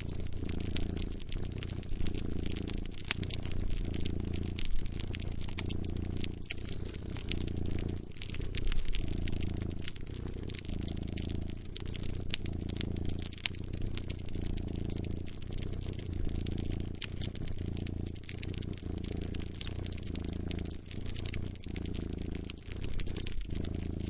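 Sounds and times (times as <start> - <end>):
cat purring: 0.0 - 24.0
wood fire crackling: 0.0 - 24.0.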